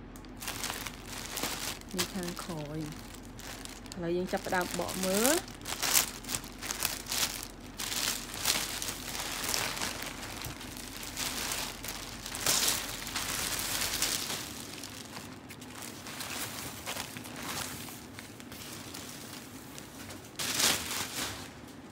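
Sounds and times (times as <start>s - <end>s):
plastic bag and paper crinkling: 0.2s - 21.9s.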